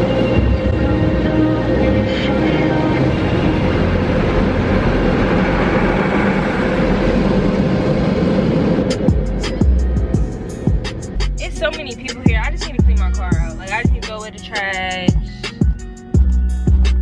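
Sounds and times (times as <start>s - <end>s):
low hum: 0.0s - 14.2s
car wash machinery rushing: 0.0s - 14.9s.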